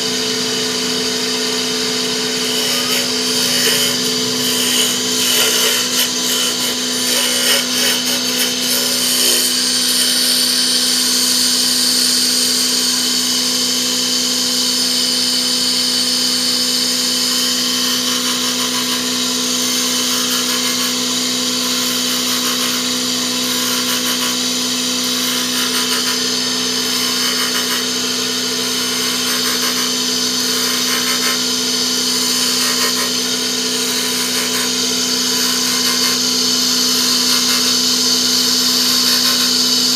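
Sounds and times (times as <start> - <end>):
tool hissing on spinning wood: 0.0 - 39.9
woodturning lathe humming: 0.0 - 39.9.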